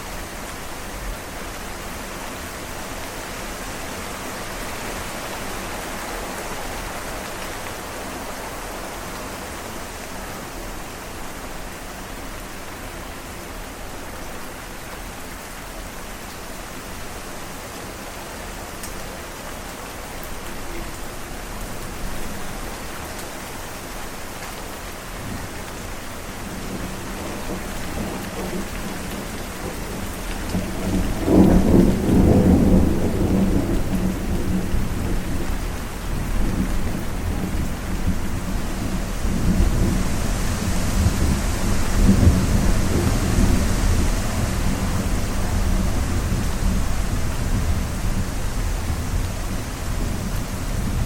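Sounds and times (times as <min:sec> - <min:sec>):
steady rain: 0:00.0 - 0:51.0.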